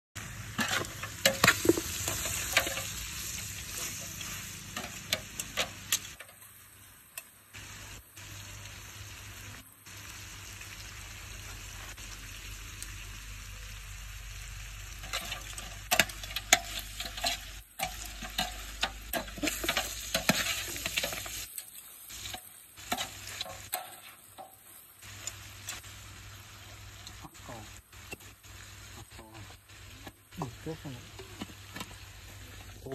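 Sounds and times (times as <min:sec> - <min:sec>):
meat and greens sizzling in a pot: 0:00.2 - 0:32.9.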